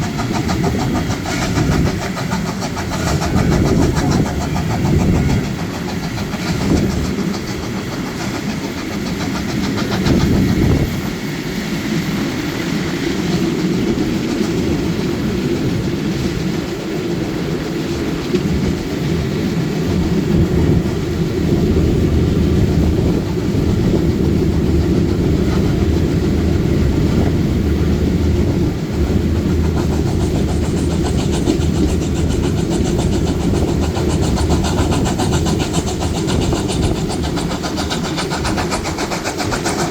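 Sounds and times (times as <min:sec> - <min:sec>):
train engine hum: 0:00.0 - 0:39.9
train wheels rumbling: 0:00.0 - 0:39.9.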